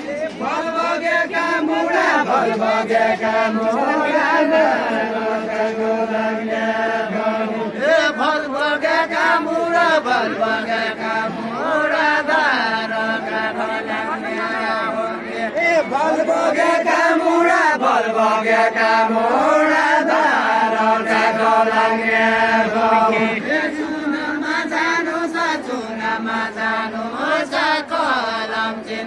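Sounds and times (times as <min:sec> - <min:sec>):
voices singing folk song: 0:00.0 - 0:29.0.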